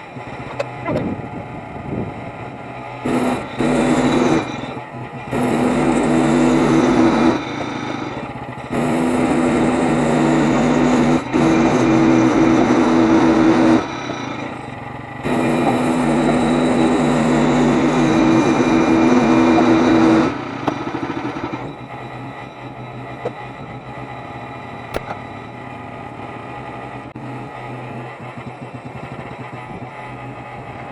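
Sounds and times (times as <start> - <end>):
bandsaw mill engine cutting log: 0.0 - 30.9.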